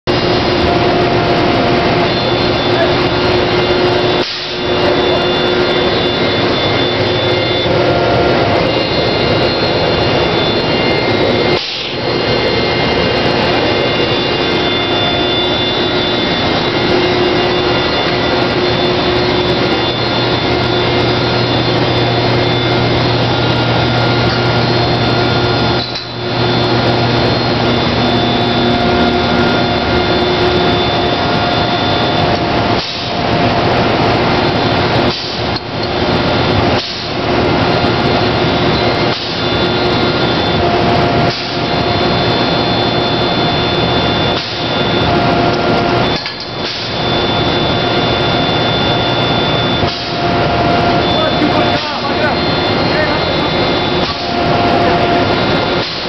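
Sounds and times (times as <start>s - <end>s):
low hum: 0.0s - 56.0s
paint sprayer and compressor drone: 0.0s - 56.0s.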